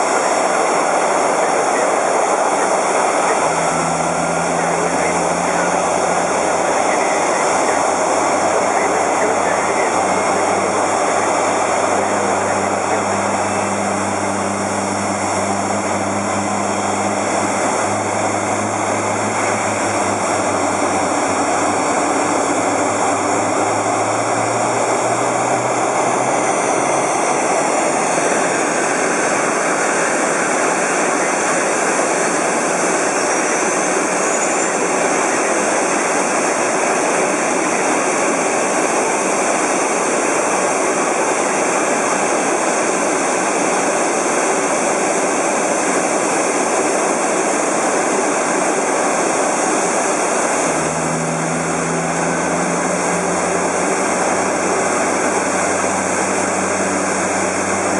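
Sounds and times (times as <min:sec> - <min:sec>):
jet engines rushing air: 0:00.0 - 0:57.9
low hum: 0:00.4 - 0:38.8, 0:48.8 - 0:57.9.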